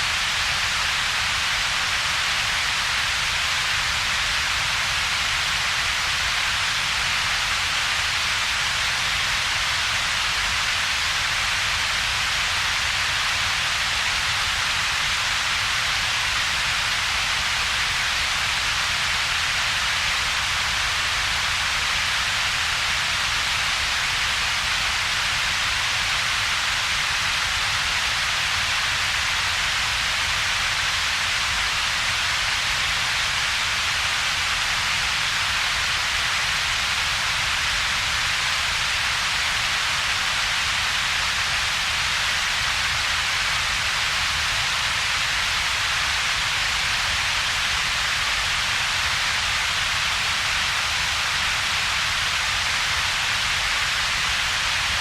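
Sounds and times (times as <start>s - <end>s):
synthesized hiss: 0.0s - 55.0s.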